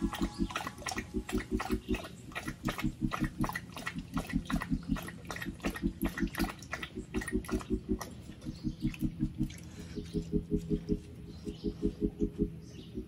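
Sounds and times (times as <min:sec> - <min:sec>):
low pulsing electronic music: 0:00.0 - 0:13.0.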